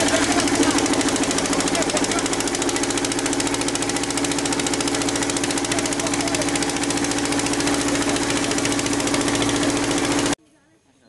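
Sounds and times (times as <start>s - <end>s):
engine running steadily: 0.0s - 10.4s.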